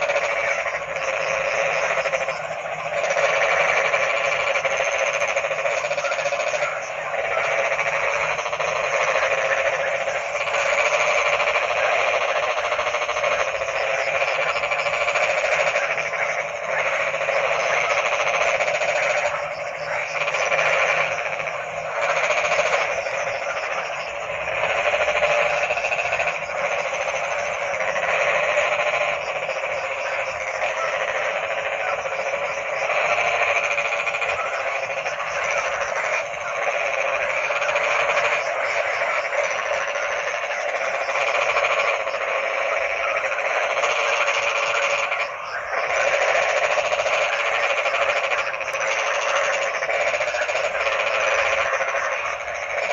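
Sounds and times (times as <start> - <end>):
chorus of frogs croaking: 0.0 - 52.9.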